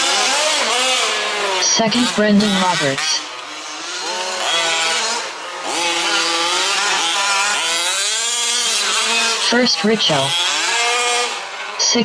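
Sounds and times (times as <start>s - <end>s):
small two-stroke engines racing: 0.0s - 12.0s.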